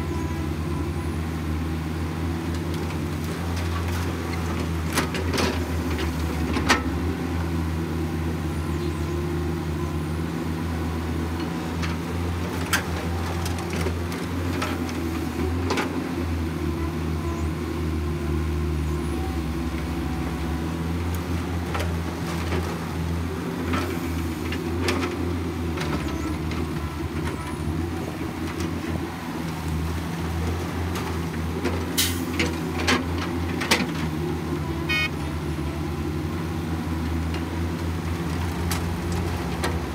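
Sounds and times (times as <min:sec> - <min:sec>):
excavator diesel engines: 0:00.0 - 0:39.9.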